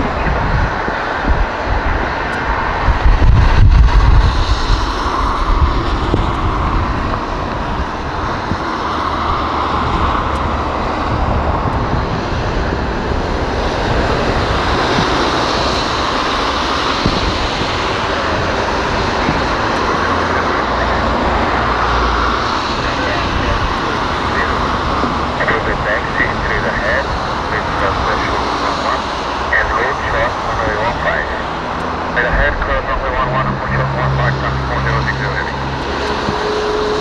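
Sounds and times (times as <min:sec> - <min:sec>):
distant jet engines rumbling: 0:00.0 - 0:37.0
low buffeting: 0:00.0 - 0:37.0
storm noise: 0:00.0 - 0:37.0.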